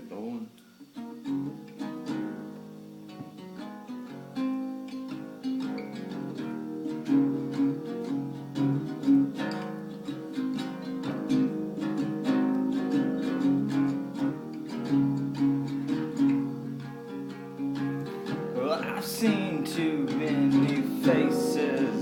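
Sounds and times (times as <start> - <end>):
acoustic guitar blues: 0.9 - 22.0.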